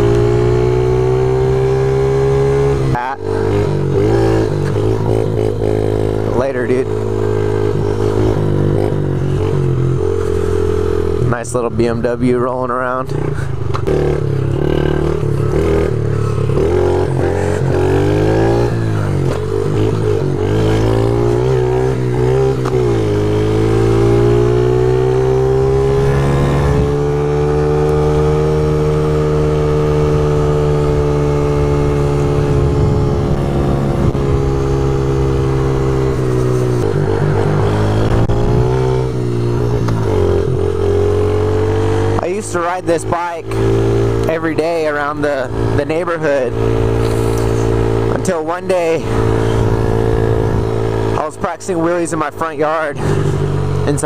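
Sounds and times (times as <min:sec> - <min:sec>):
small motorbike engine revving: 0:00.0 - 0:11.2, 0:13.1 - 0:54.0.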